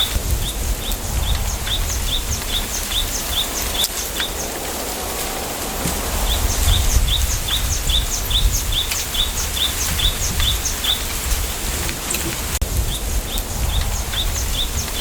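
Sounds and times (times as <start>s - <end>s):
bird chirping: 0.0s - 5.1s, 5.9s - 15.0s
low wind rumble: 0.0s - 15.0s.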